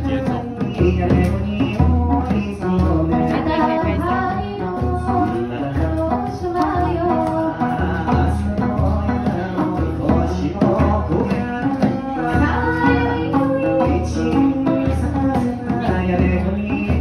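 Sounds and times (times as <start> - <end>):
drum beats: 0.0 - 17.0
person singing: 0.0 - 17.0
plucked lute: 0.0 - 17.0.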